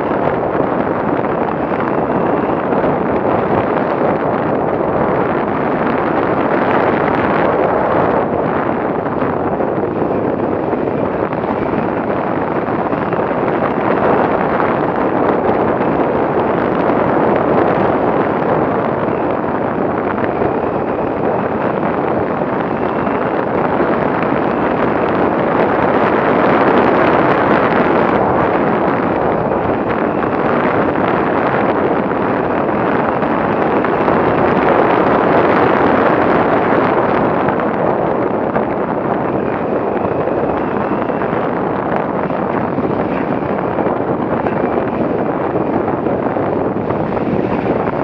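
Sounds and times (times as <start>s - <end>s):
wind noise on microphone: 0.0s - 48.0s.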